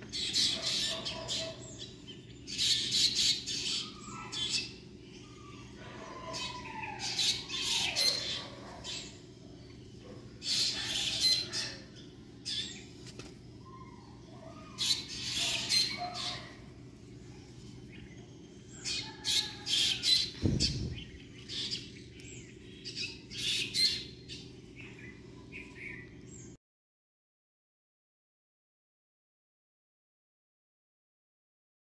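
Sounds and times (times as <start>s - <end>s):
birds chirping and squawking: 0.0s - 26.6s.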